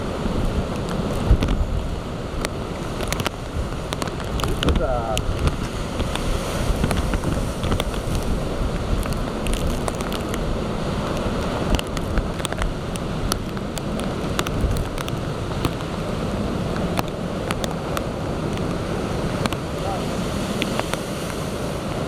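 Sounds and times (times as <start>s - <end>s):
raindrops striking microphone: 0.0s - 22.0s
wind buffeting microphone: 0.0s - 22.0s.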